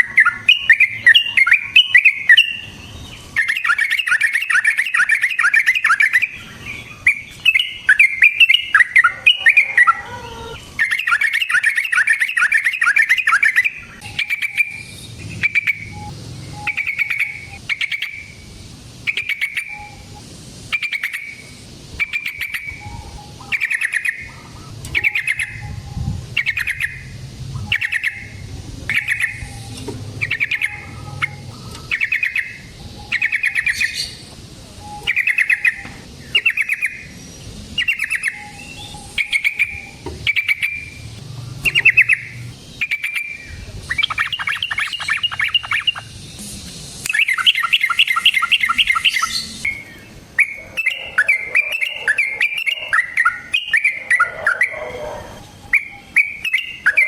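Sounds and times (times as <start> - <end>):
bulbul calling: 0.0 - 46.4, 47.0 - 57.0.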